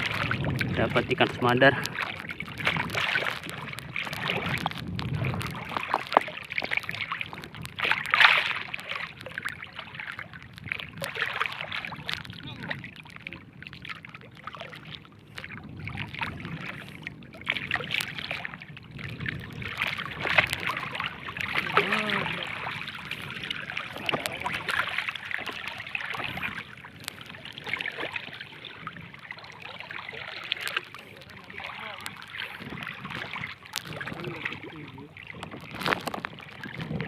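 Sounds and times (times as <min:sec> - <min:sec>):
knocks and clicks from net and boat: 0:00.0 - 0:37.0
water splashing and trickling: 0:00.0 - 0:37.0.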